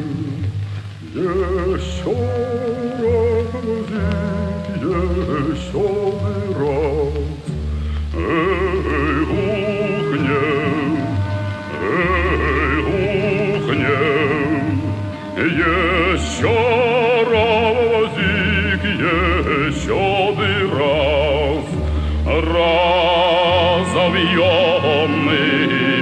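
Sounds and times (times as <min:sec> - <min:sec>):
person singing operatically: 0:00.0 - 0:26.0.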